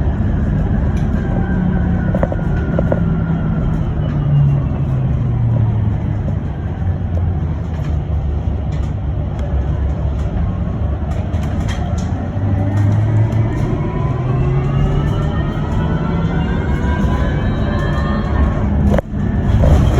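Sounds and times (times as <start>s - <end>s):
tyre and road rumble: 0.0s - 19.9s.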